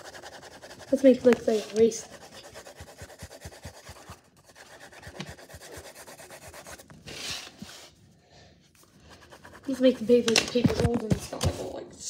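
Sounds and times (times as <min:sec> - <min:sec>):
paper rubbing and rustling: 0:00.0 - 0:07.9, 0:08.8 - 0:11.8.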